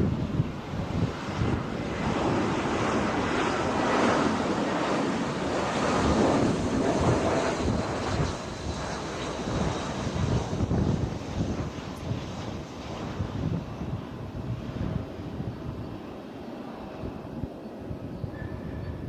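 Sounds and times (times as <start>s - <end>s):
gusty wind buffeting microphone: 0.0s - 19.0s
jet airliner engines rumbling: 0.0s - 19.0s.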